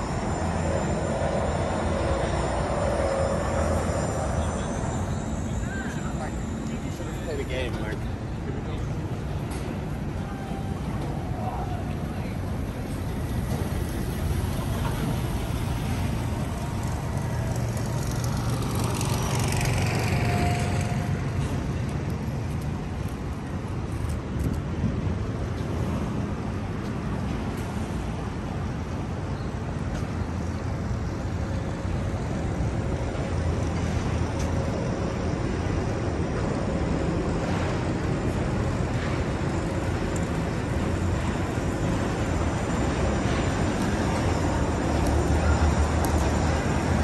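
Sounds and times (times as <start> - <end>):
low rumble of road traffic: 0.0 - 47.0
street noise: 0.0 - 47.0.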